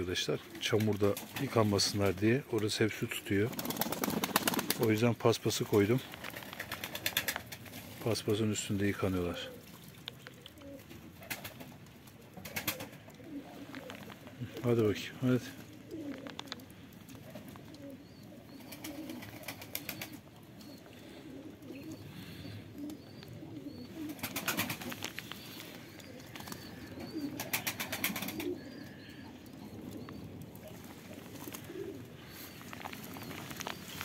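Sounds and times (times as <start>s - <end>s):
pigeons cooing: 0.0s - 34.0s
wing-flapping and splashing: 0.4s - 2.2s, 3.2s - 14.7s, 15.6s - 20.4s, 23.9s - 29.0s, 29.7s - 34.0s.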